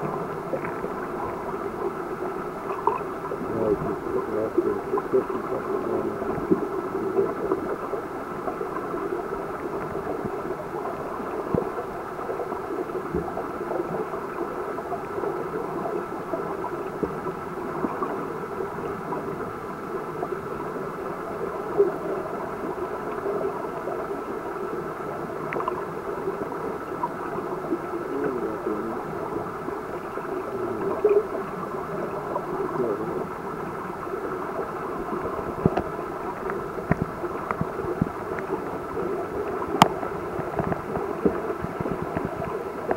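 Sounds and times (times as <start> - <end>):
faint steady tone: 0.0 - 42.9
underwater rush of water: 0.0 - 42.9.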